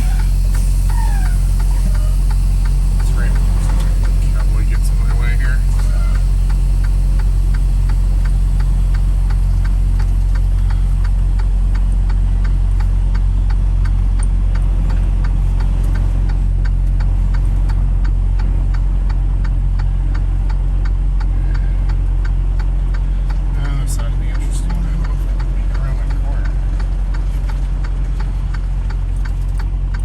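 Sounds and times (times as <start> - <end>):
light even ticking: 0.0 - 30.0
vehicle engine running: 0.0 - 30.0.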